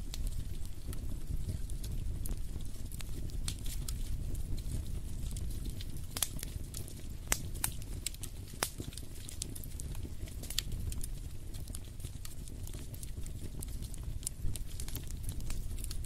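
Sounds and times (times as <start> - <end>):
fire popping and snapping: 0.0 - 16.0
log fire crackling: 0.0 - 16.0
low fire rumble: 0.0 - 16.0.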